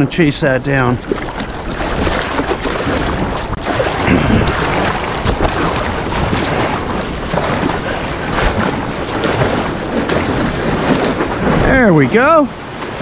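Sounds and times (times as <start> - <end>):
water splashing around paddleboard: 0.6 - 13.0
wind noise on microphone: 0.8 - 13.0.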